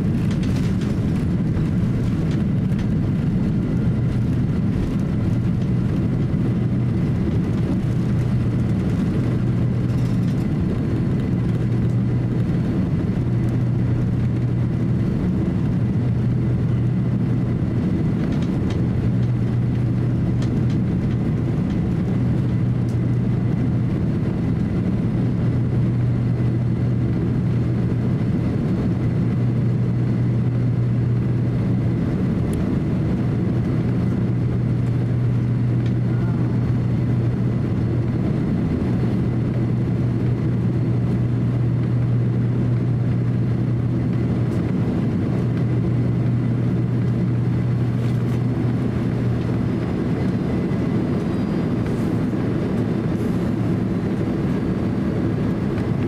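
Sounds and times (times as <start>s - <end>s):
airliner wheels rumbling: 0.0s - 56.0s
jet engines idling drone: 0.0s - 56.0s.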